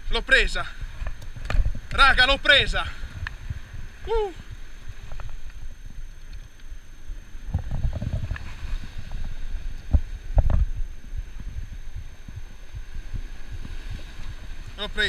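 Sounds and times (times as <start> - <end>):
low rumble on microphone: 0.0 - 15.0.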